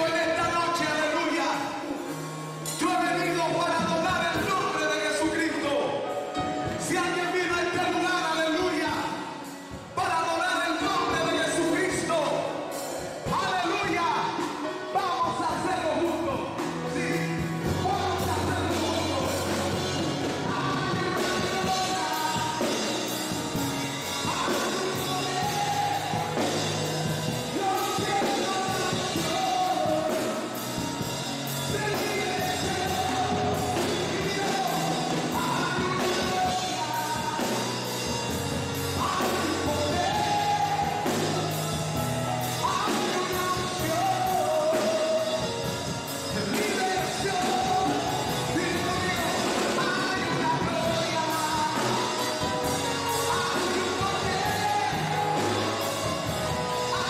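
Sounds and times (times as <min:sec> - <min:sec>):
man singing into microphone: 0:00.0 - 0:02.0, 0:02.7 - 0:57.0
band playing: 0:00.0 - 0:57.0.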